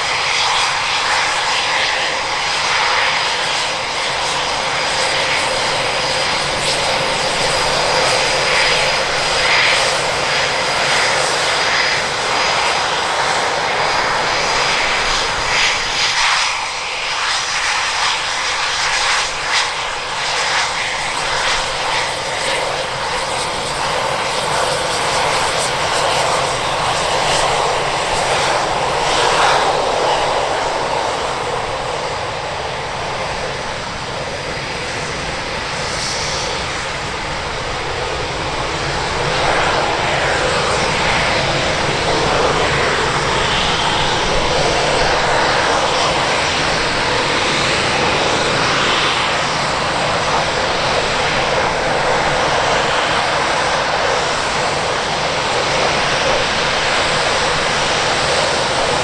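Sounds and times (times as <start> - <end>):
jet engines rushing with whine: 0.0 - 59.0.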